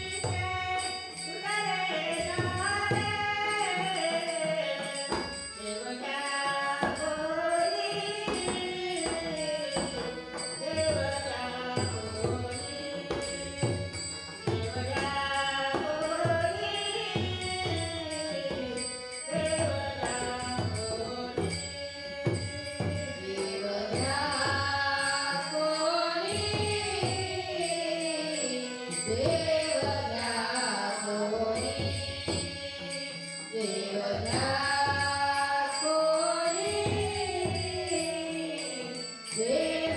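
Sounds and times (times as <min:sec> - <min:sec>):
jingling percussion: 0:00.0 - 0:39.9
woman singing devotional song: 0:00.0 - 0:39.9.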